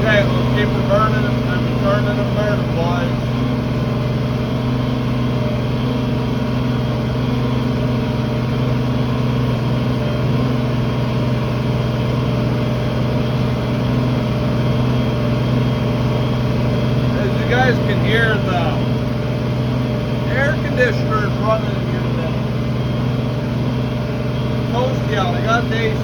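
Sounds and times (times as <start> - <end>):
air conditioner blowing: 0.0 - 26.0
tractor engine running: 0.0 - 26.0.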